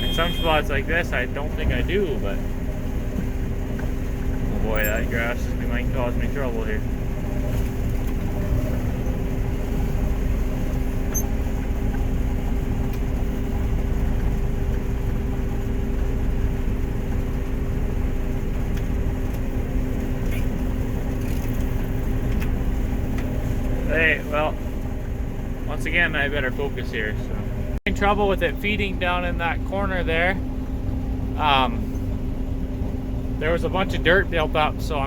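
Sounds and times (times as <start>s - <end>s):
combine harvester engine droning: 0.0s - 35.0s.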